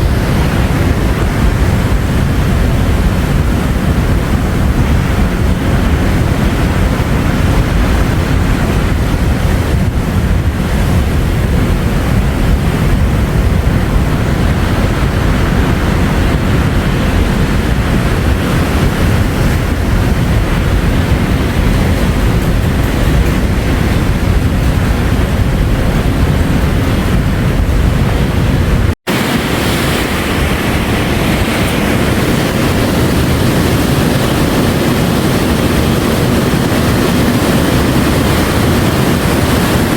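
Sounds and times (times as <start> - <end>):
surf washing on shore: 0.0 - 39.9
wind rumbling on microphone: 0.0 - 39.9.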